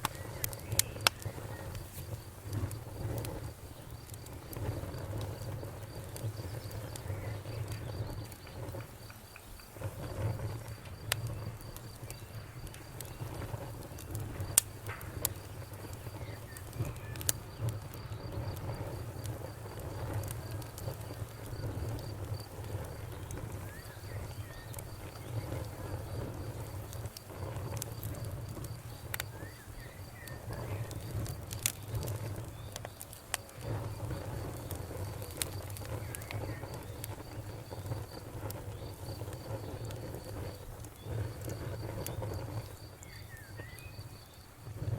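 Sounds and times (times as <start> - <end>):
campfire crackling and popping: 0.0 - 44.9
insects trilling: 0.0 - 44.9.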